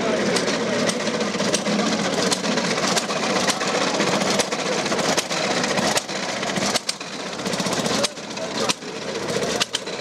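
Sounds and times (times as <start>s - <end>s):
single-cylinder engine running: 0.0s - 10.0s.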